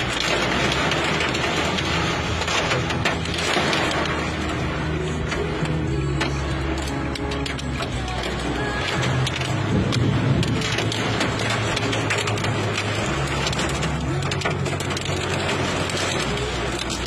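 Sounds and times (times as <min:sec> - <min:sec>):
roar of rain: 0:00.0 - 0:05.7, 0:06.6 - 0:17.0
hail pelting vehicle roof: 0:00.0 - 0:17.0.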